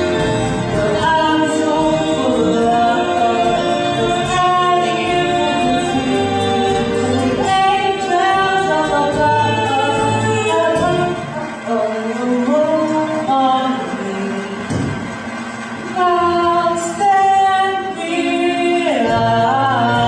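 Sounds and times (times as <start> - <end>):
voices singing musical song: 0.0 - 14.8, 15.9 - 20.0.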